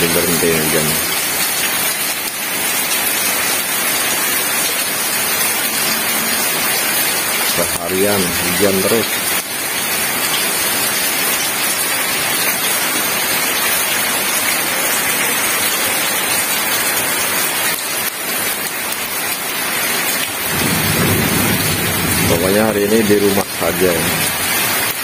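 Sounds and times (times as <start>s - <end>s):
heavy rain on wet pavement: 0.0s - 25.0s.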